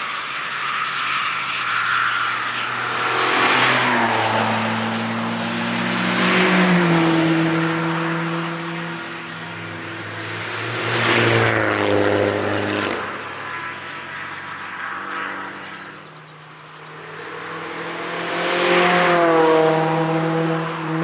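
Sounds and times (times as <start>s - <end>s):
race cars driving past: 0.0s - 21.0s.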